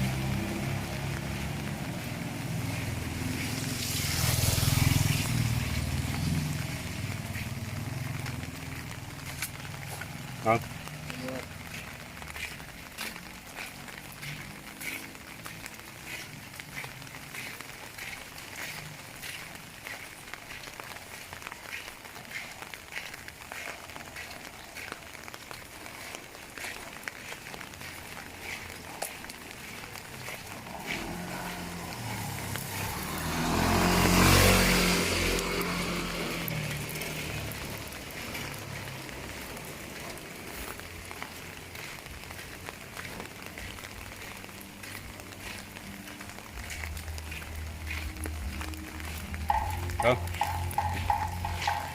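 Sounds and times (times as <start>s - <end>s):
footsteps on wet ground: 0.0s - 51.9s
passing vehicle rumble: 0.0s - 51.9s
steady rain falling: 0.0s - 51.9s.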